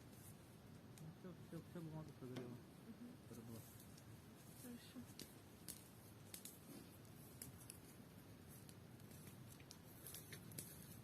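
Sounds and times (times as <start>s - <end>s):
paper fire crackling: 0.0s - 11.0s.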